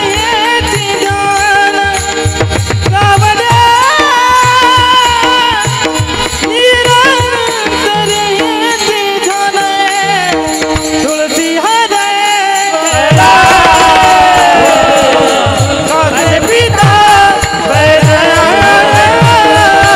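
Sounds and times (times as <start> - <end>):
hand drum strikes: 0.0 - 11.8, 13.1 - 19.9
solo devotional singing: 0.0 - 19.9.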